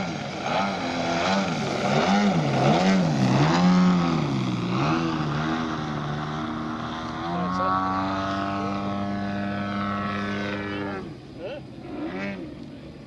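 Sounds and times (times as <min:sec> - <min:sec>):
model aircraft engine: 0:00.0 - 0:13.0.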